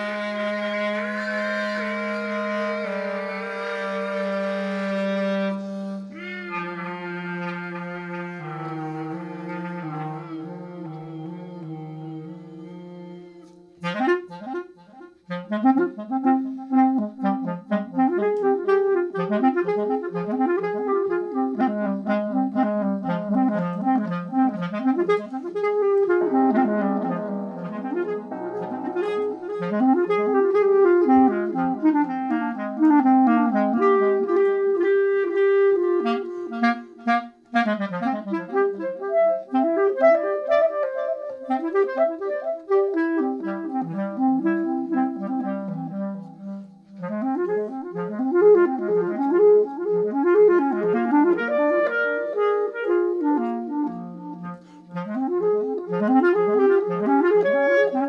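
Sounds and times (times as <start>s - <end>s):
clarinet playing fast runs: 0.0s - 58.0s
looped clarinet layers: 0.0s - 58.0s.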